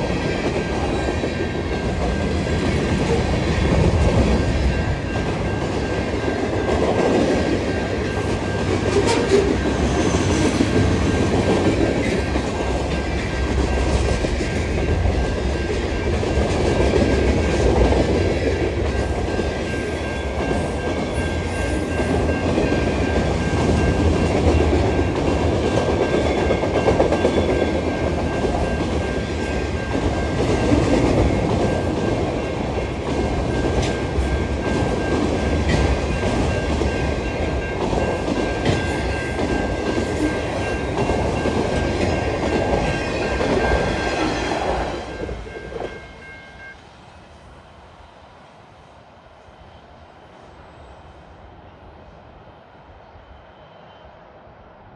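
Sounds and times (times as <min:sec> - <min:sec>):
freight train wheels clacking: 0:00.0 - 0:46.5.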